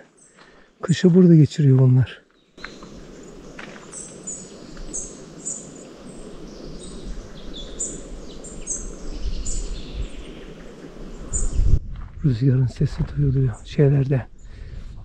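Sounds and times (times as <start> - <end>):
small birds chirping: 0.0 - 14.8
wind in trees: 0.0 - 15.0
wind gusts on microphone: 2.6 - 15.0.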